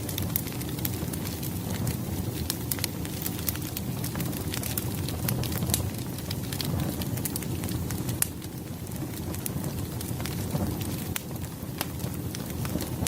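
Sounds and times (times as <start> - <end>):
firewood crackling and popping: 0.0 - 13.0
low rumble of flames: 0.0 - 13.0.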